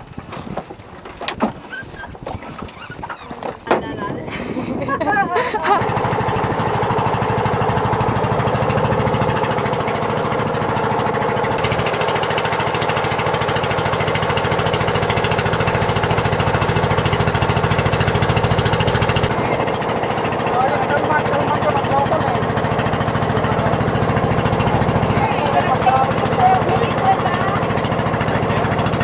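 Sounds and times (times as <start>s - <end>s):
boat engine chugging: 0.0s - 29.0s.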